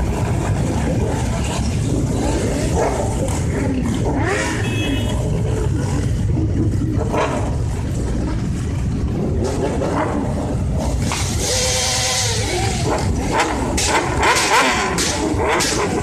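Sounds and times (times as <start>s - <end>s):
motorcycle engines droning: 0.0s - 16.0s
motorcycle revving: 0.0s - 16.0s.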